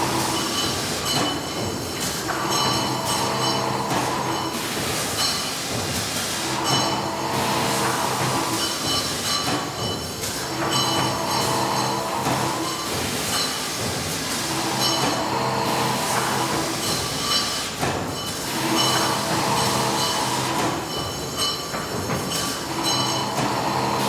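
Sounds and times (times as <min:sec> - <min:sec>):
factory machinery running: 0:00.0 - 0:24.0.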